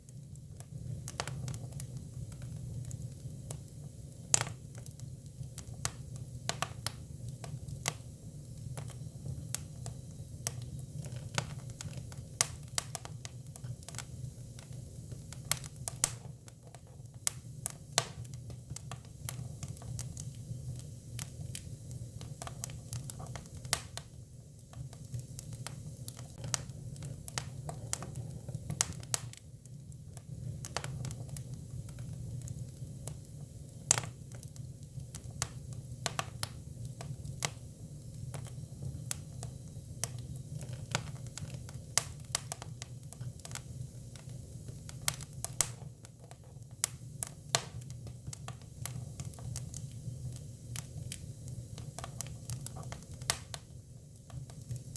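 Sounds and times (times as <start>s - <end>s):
firewood crackling and popping: 0.0s - 54.9s
low rumble of fire: 0.0s - 54.9s.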